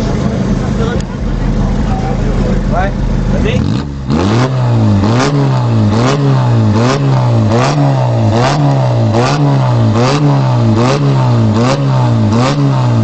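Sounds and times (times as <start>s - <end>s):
car engine revving: 0.0s - 13.0s
exhaust crack: 0.0s - 13.0s.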